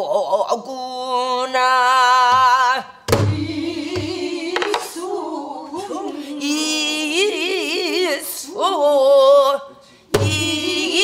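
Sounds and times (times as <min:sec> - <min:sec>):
woman singing with vibrato: 0:00.0 - 0:11.0.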